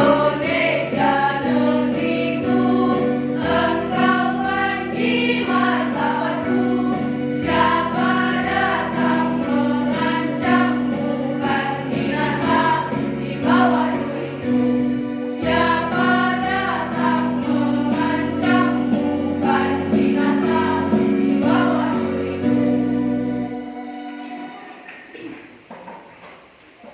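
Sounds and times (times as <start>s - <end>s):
girls' choir singing in harmony: 0.0s - 24.9s
instrumental accompaniment: 0.0s - 25.3s.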